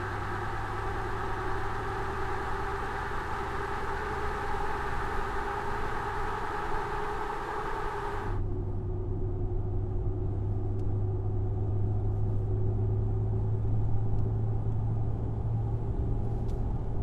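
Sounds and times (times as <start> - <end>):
low exhaust note from inside cab: 0.0 - 17.0.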